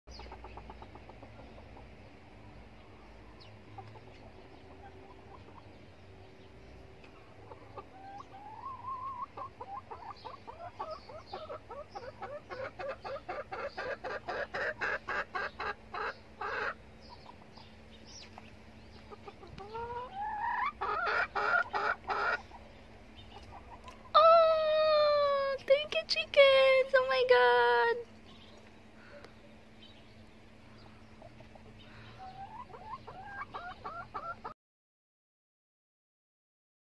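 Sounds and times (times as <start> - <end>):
hen clucking: 0.1 - 2.2, 2.8 - 25.5, 28.3 - 34.6.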